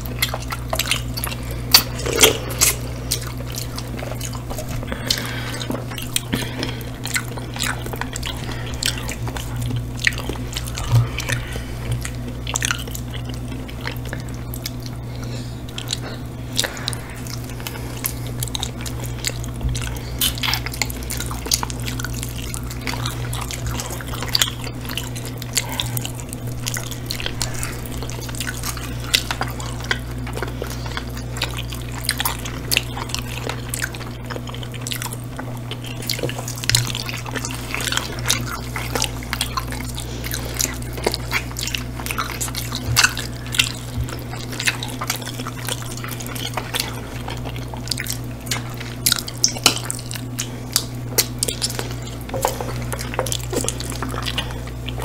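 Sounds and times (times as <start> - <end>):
steady low hum: 0.0 - 55.0
wet chewing and lip-smacking: 0.0 - 55.0.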